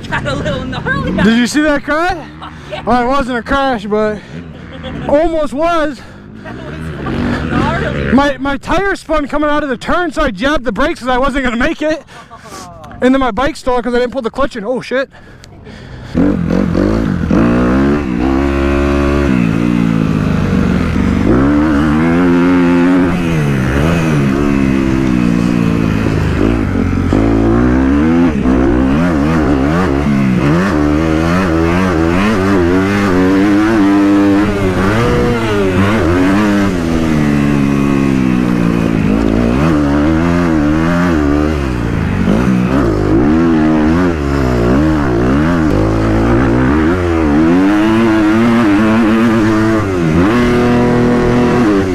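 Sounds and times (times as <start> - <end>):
dirt bike engine revving: 0.0 - 8.6, 15.7 - 51.9.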